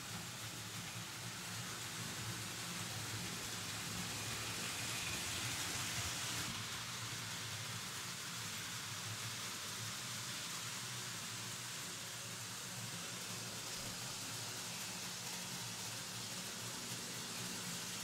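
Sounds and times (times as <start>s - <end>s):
model train wheels on track: 0.0s - 18.0s.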